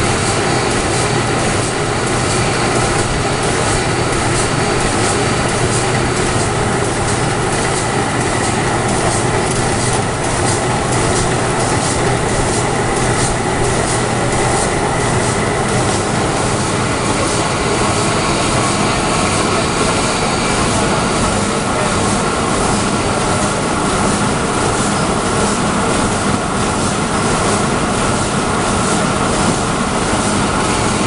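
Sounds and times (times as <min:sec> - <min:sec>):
machine mechanical din: 0:00.0 - 0:27.5.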